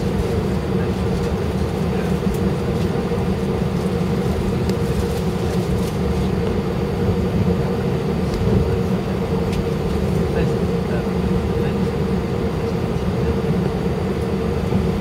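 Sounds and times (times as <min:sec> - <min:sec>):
aircraft engine and air-conditioning rumble: 0:00.0 - 0:15.0.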